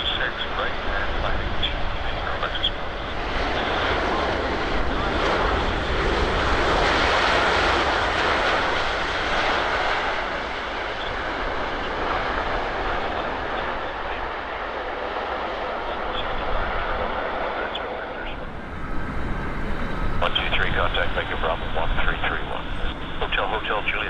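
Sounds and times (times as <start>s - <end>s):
jet airliner roar: 0.0s - 24.0s.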